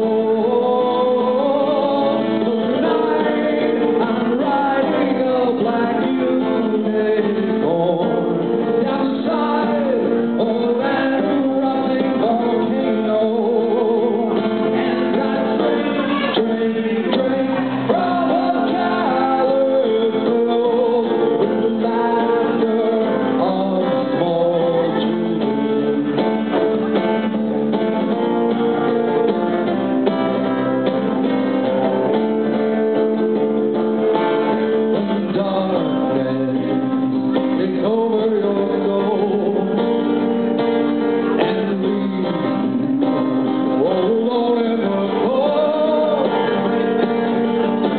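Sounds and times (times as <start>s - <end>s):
man singing: 0.0s - 28.8s, 32.2s - 47.9s
acoustic guitar: 0.0s - 47.9s.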